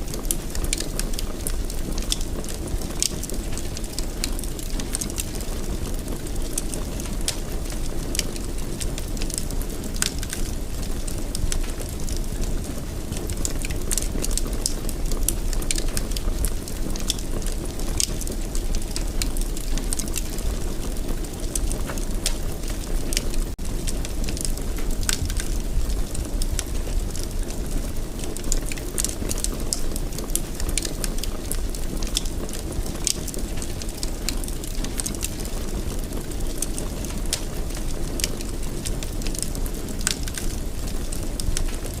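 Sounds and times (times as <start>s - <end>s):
fire crackling and popping: 0.0s - 42.0s
low rumble of flames: 0.0s - 42.0s.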